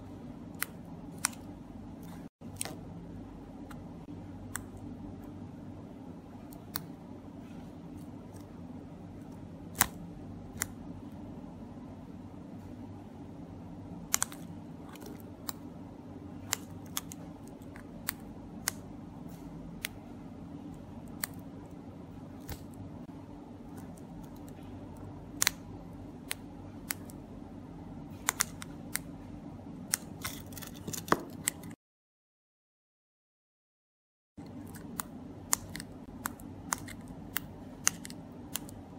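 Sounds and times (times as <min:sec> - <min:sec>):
steady low hum: 0:00.0 - 0:31.8, 0:34.4 - 0:38.9.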